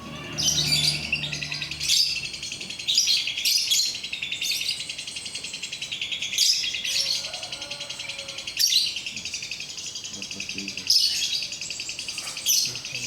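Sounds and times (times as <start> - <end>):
sharp bird calls: 0.0 - 13.0.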